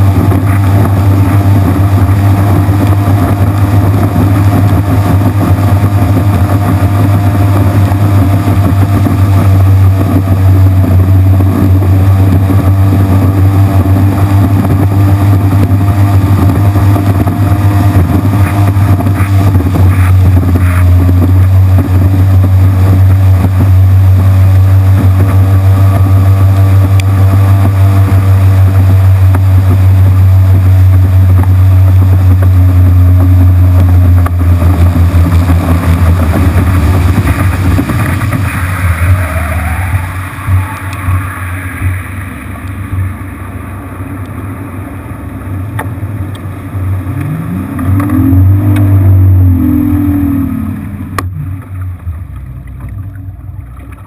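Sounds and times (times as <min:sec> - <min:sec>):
boat wake splashing: 0:00.0 - 0:54.0
outboard motor droning: 0:00.0 - 0:54.0.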